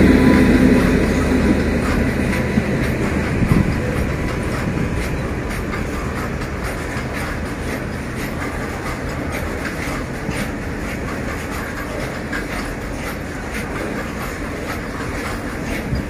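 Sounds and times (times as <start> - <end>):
steel wheels rumbling on rail: 0.0 - 16.0
train wheel clicks: 0.0 - 16.0.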